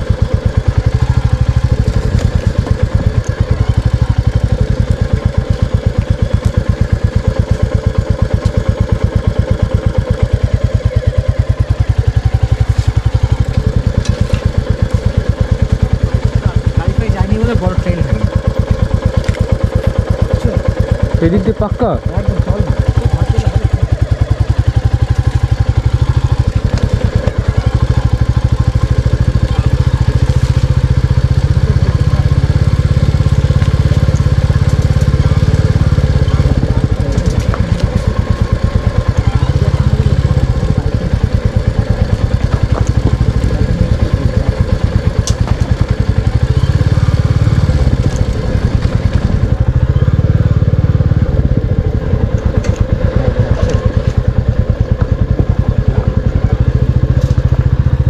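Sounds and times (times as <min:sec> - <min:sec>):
motorcycle engine thumping: 0:00.0 - 0:58.0.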